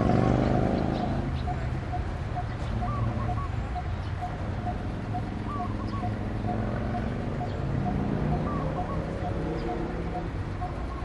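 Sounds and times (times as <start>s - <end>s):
birds calling: 0.0s - 11.0s
low engine hum: 0.0s - 11.0s.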